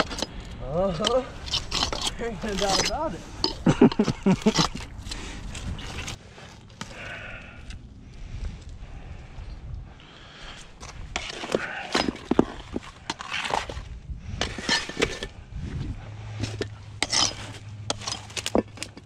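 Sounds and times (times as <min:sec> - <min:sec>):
rocks clattering and scraping: 0:00.0 - 0:07.5, 0:10.7 - 0:19.0.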